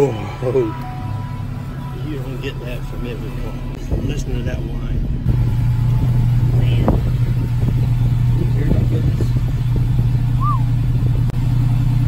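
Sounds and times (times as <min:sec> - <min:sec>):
engine exhaust idling: 0:00.0 - 0:12.0.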